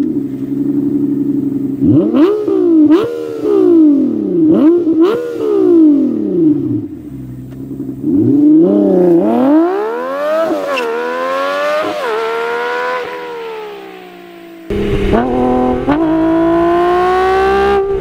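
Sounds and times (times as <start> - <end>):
high-pitched car engine revving: 0.7 - 6.8, 8.0 - 18.0.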